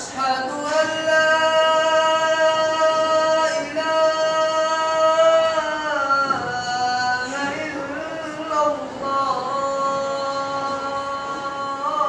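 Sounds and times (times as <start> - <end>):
man chanting call to prayer: 0.0 - 12.0.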